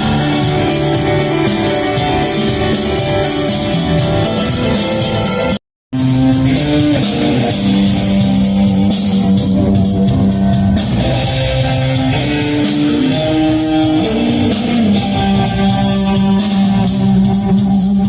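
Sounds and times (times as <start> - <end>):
electric guitars: 0.0 - 18.0
live rock band playing: 0.0 - 18.0.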